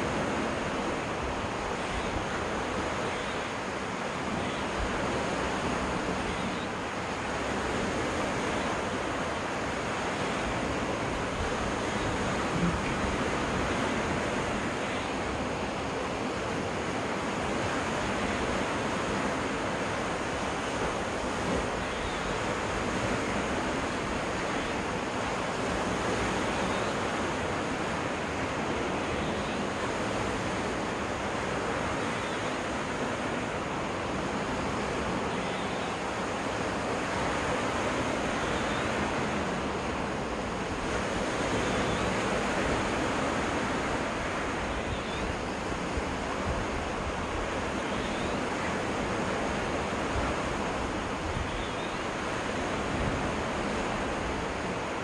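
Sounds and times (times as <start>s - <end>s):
waves washing onto beach: 0.0s - 55.0s.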